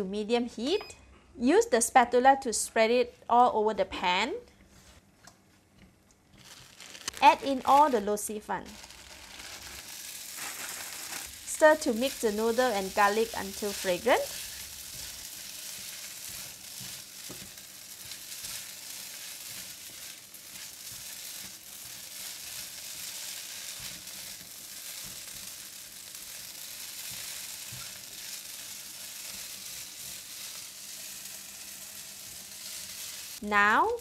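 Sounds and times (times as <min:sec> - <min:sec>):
noodles sizzling in oil: 0:06.4 - 0:34.0.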